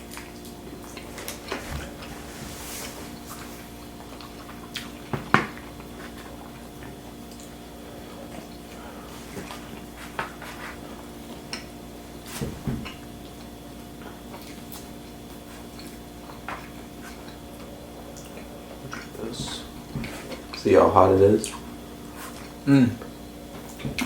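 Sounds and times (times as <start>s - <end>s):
wet chewing: 0.0s - 2.2s, 2.8s - 20.8s, 21.4s - 24.0s
low room hum: 0.0s - 24.0s.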